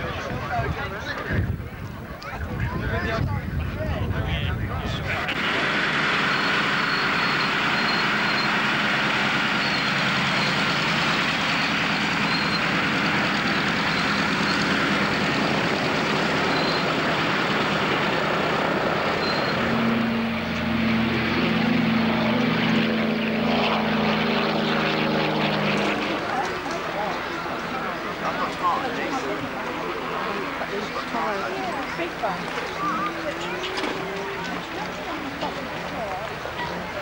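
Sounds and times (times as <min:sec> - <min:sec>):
propeller aircraft engines running: 0:00.0 - 0:37.0
pitched engine drone: 0:04.3 - 0:37.0.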